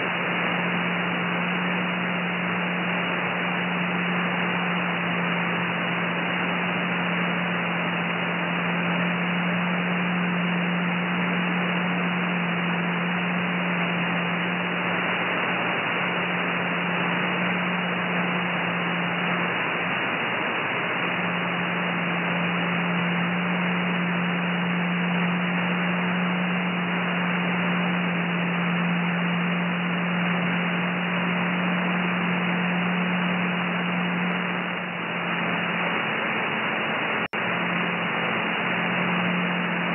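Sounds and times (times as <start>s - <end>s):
low steady tone: 0.0s - 39.9s
radio hiss and static: 0.0s - 39.9s.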